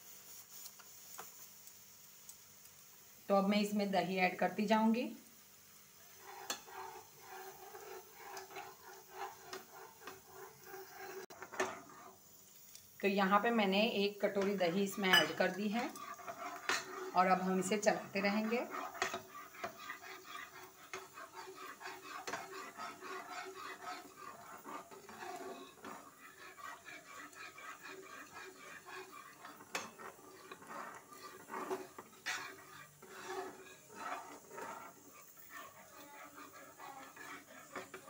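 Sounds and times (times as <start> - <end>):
spatula scraping pan: 0.0 - 1.7, 3.4 - 38.0.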